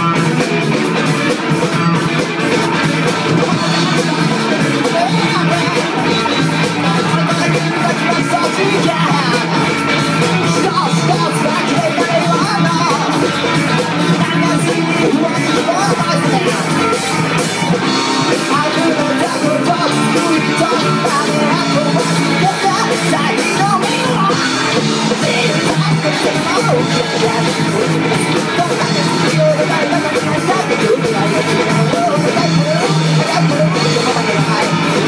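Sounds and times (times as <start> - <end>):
bass guitar: 0.0 - 35.0
drum kit steady beat: 0.0 - 35.0
electric guitars: 0.0 - 35.0.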